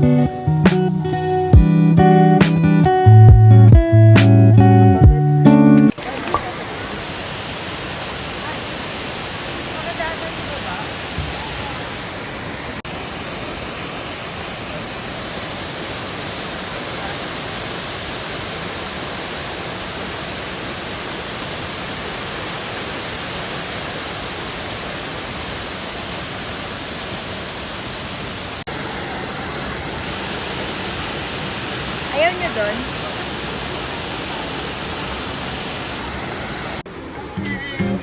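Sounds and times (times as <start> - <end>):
waterfall rushing: 5.9 - 38.0.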